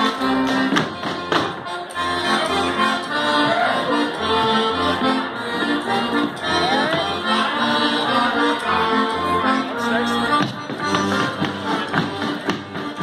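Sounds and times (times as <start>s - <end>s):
accordion folk dance music: 0.0s - 13.0s.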